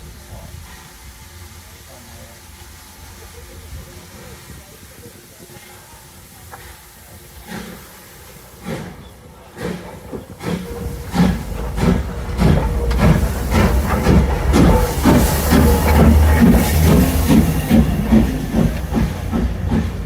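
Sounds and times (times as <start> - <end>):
low rumble of train: 0.0 - 20.0
steam locomotive exhaust chuffs: 0.0 - 20.0.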